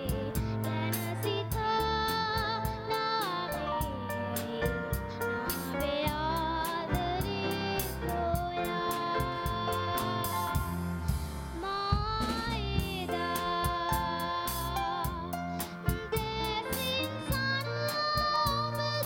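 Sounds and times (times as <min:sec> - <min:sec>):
girl singing into microphone: 0:00.0 - 0:10.8, 0:11.5 - 0:19.0
live band playing: 0:00.0 - 0:19.0.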